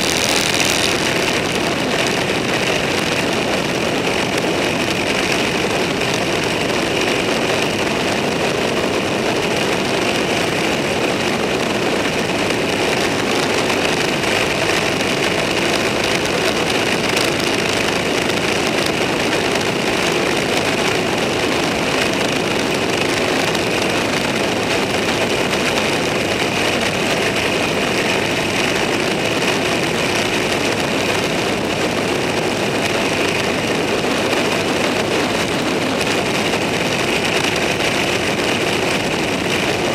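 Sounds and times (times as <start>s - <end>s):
vehicle engine cruising: 0.0s - 39.9s
wind and road noise: 0.0s - 39.9s.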